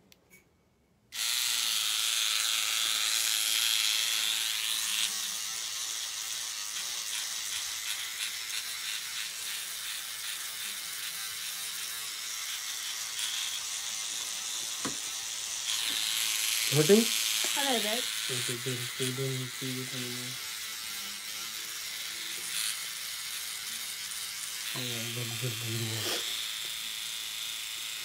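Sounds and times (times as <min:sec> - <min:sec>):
high-pitched motor buzz: 0:01.2 - 0:28.0.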